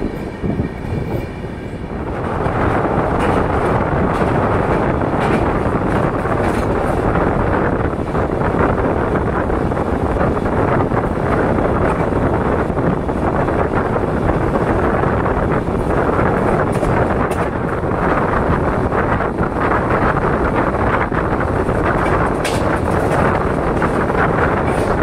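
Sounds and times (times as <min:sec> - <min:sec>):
train rumbling on track: 0:00.0 - 0:25.0
wind buffeting microphone: 0:00.0 - 0:25.0.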